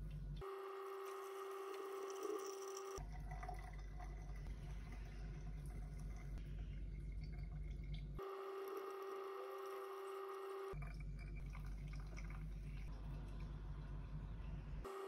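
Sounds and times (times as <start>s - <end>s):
coffee dripper swirling: 0.9s - 13.6s
hot water pouring: 1.0s - 13.8s.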